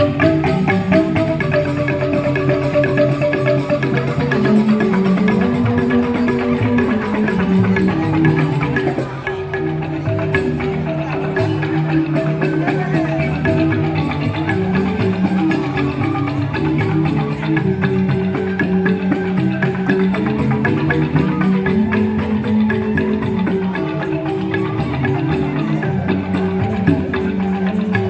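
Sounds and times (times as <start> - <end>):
bamboo xylophone ensemble: 0.0 - 28.0
percussion: 0.0 - 28.0.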